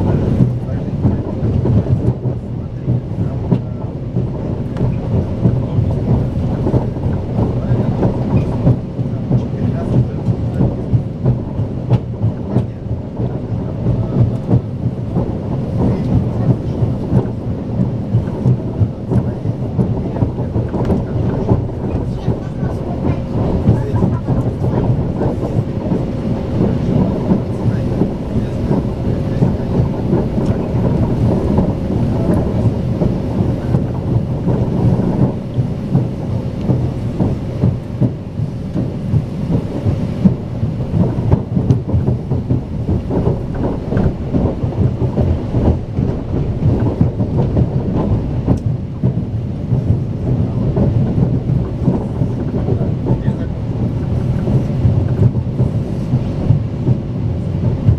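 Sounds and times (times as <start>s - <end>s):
train wheels rumbling on track: 0.0s - 57.9s.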